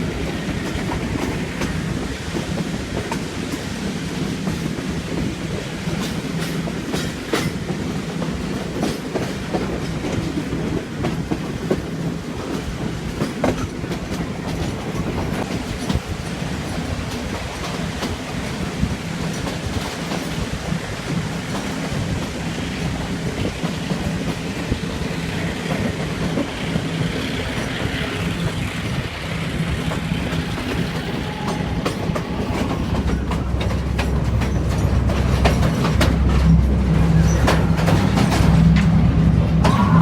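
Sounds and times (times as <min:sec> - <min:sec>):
diesel locomotive engine drone: 0:00.0 - 0:40.0
wheels clicking over rail joints: 0:00.0 - 0:40.0.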